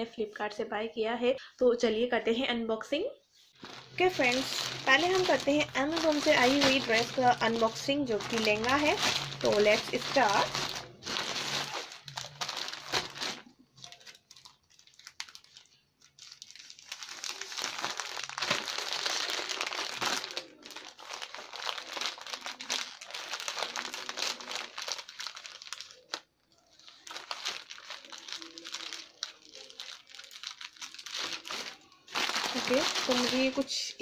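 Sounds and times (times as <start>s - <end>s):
plastic bag crinkling: 3.6s - 33.9s.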